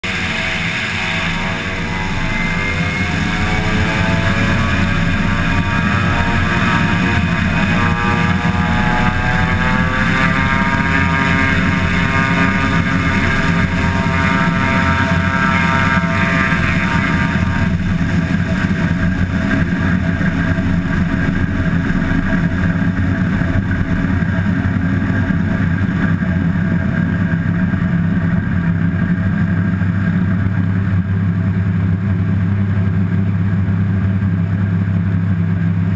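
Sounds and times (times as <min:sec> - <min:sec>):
aircraft engine whine: 0:00.0 - 0:35.9
propeller plane drone: 0:00.0 - 0:35.9.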